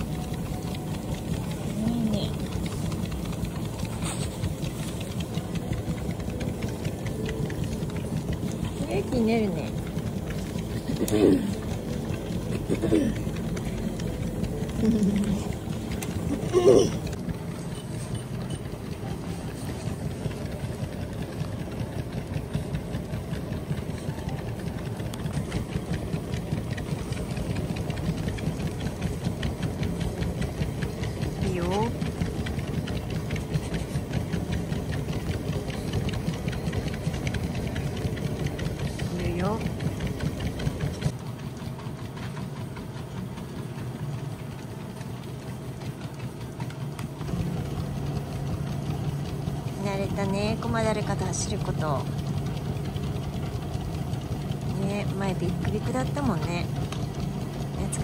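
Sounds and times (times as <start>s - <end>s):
dog paws trotting on belt: 0.0s - 58.0s
treadmill motor hum: 0.0s - 58.0s.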